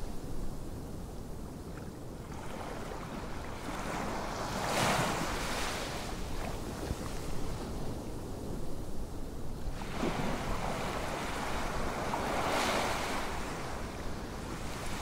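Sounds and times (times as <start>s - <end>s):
wind blowing over microphone: 0.0s - 15.0s.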